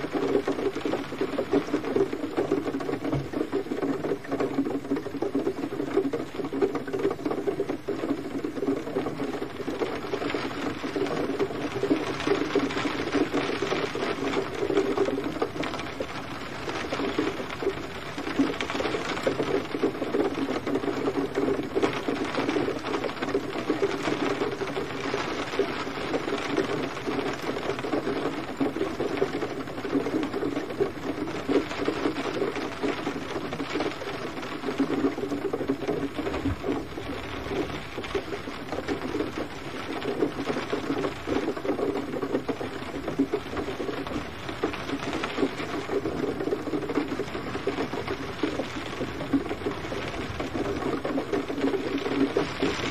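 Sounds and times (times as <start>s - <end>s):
gentle rain patter: 0.0s - 52.9s.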